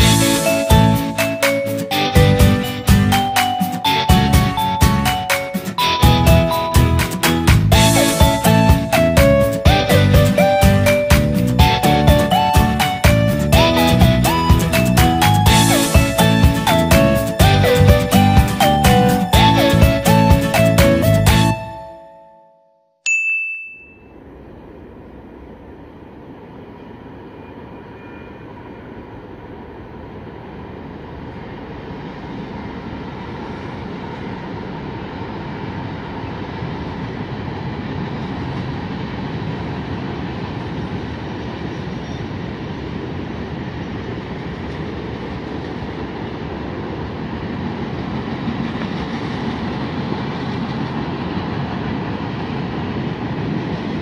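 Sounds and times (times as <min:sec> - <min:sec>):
freight train rumbling past: 0:00.0 - 0:22.0, 0:24.2 - 0:54.0.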